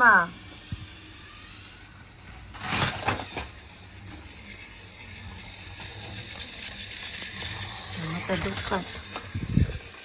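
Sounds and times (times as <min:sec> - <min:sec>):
toy train clattering on track: 0:00.0 - 0:10.0
toy train mechanical whir: 0:00.0 - 0:10.0.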